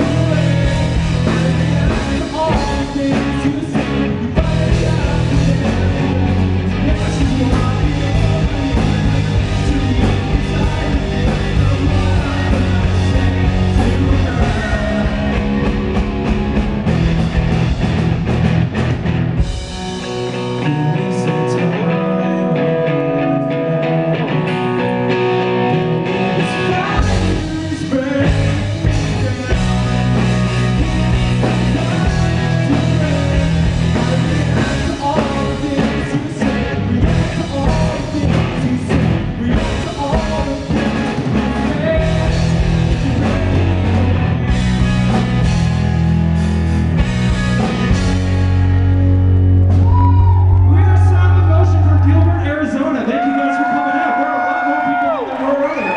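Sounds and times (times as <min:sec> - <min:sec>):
drum kit: 0:00.0 - 0:21.3, 0:25.7 - 0:53.3
bass: 0:00.0 - 0:55.9
electric guitars: 0:00.0 - 0:55.9.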